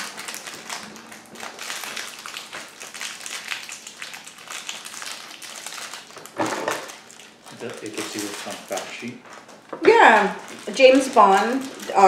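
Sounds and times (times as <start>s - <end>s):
snack packaging crinkling: 0.0s - 12.0s.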